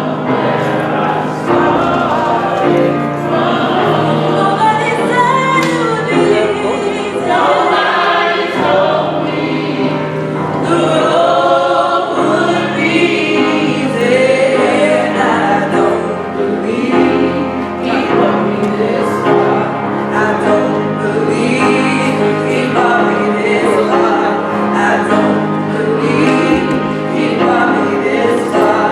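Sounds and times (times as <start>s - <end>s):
gospel singing with accompaniment: 0.0s - 28.9s.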